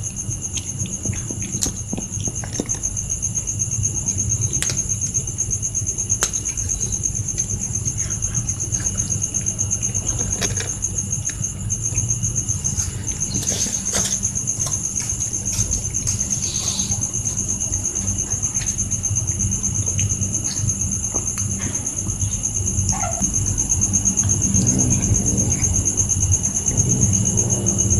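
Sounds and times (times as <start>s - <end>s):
cats chewing and licking: 0.0s - 27.9s
crickets chirring: 0.0s - 27.9s.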